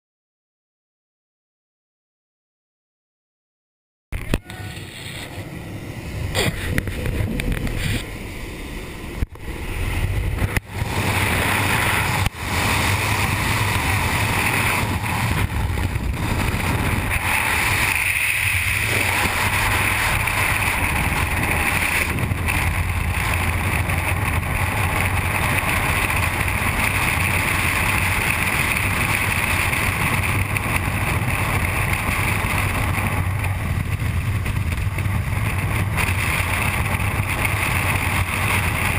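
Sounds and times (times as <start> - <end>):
wind rushing over helmet: 4.2 - 38.9.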